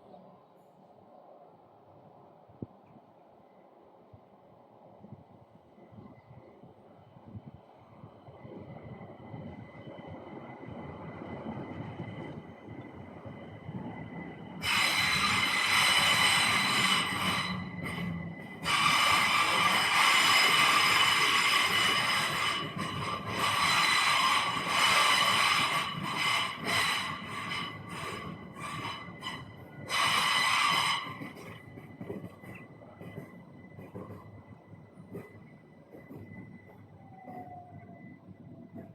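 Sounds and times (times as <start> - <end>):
passing train: 0.0 - 38.9
train wheels squealing on rails: 5.8 - 38.9.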